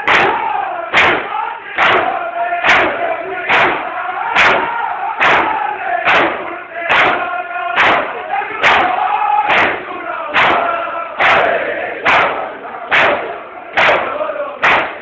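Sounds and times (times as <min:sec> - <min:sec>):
crowd chanting: 0:00.0 - 0:15.0
men beating their chests: 0:00.0 - 0:15.0.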